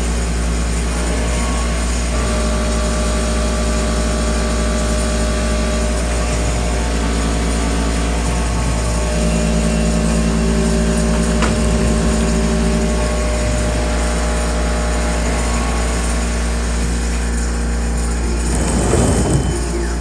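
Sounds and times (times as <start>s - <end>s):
stepper motor tones: 0.0s - 20.0s
milling spindle humming: 0.2s - 20.0s.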